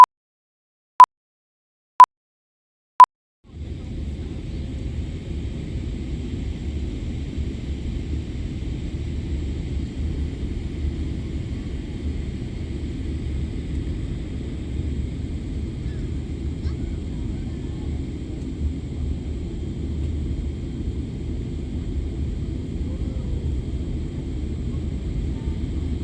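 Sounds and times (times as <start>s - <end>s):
airliner low rumble: 3.4s - 26.0s.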